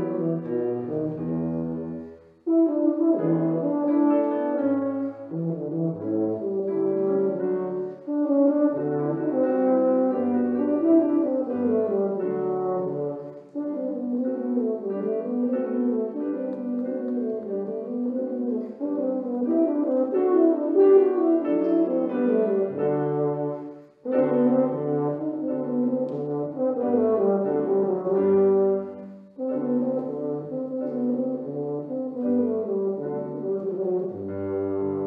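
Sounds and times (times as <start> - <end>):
low brass instrument solo: 0.0 - 35.0.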